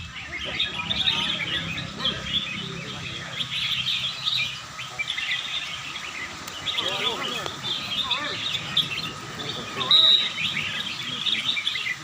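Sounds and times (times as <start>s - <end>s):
many birds chirping and warbling: 0.0s - 12.0s.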